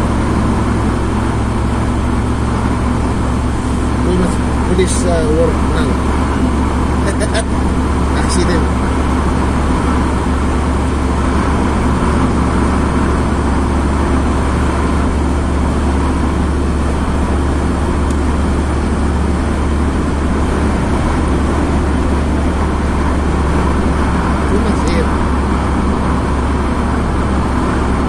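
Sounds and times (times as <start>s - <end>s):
car engine and tyre rumble: 0.0s - 28.0s
road hiss: 0.0s - 28.0s.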